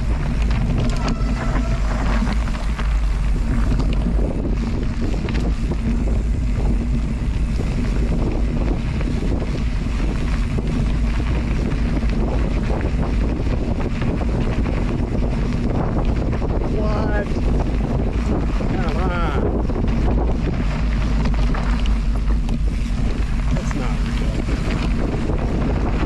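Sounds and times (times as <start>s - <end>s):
constant rushing noise: 0.0s - 26.0s
wind buffeting microphone: 0.0s - 26.0s.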